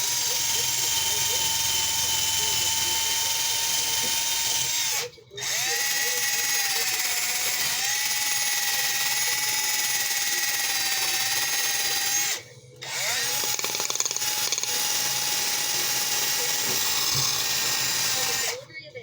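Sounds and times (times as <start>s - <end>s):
drill with wire wheel scrubbing: 0.0s - 18.6s.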